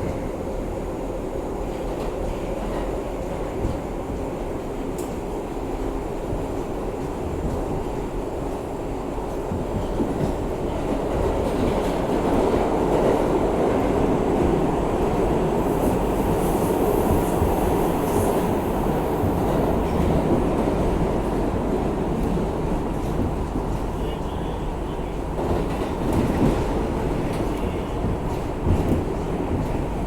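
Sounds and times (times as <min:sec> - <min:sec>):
subway train wheels on rail: 0:00.0 - 0:30.0.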